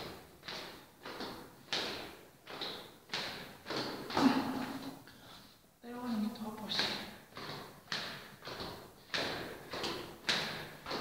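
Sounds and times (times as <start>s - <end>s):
footsteps going down stairs: 0.0s - 5.3s, 6.0s - 11.0s.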